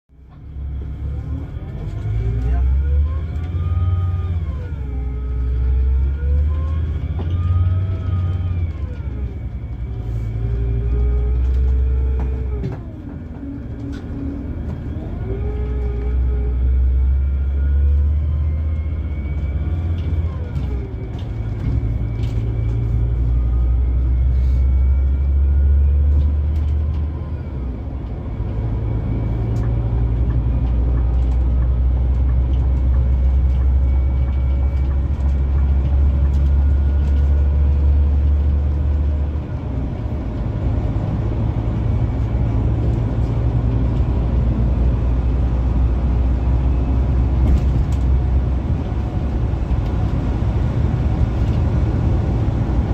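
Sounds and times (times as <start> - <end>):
diesel engine droning: 0.1 - 52.9.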